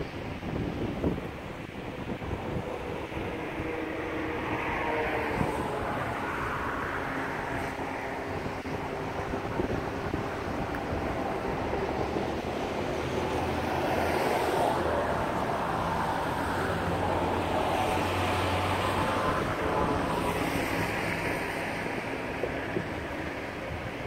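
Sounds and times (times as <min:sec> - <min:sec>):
fast-flowing water rushing: 0:00.0 - 0:24.0
traffic engine hum and tyre noise: 0:00.0 - 0:24.0
wind: 0:00.0 - 0:24.0.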